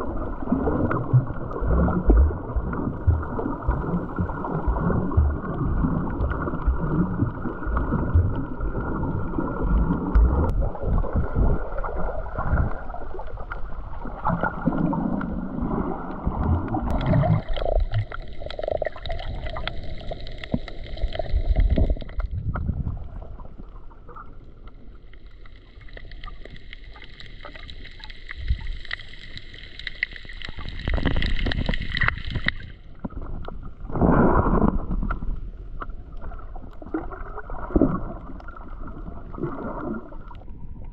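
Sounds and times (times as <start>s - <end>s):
muffled water sloshing underwater: 0.0s - 40.9s.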